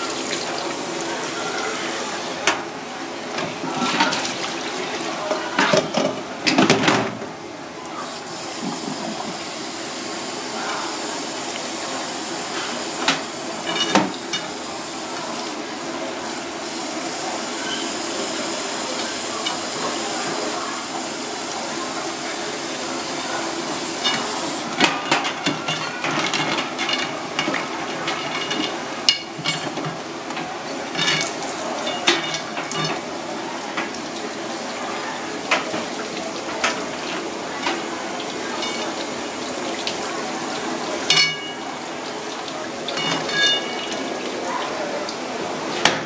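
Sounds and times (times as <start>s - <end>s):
tap water running and splashing: 0.0s - 46.0s.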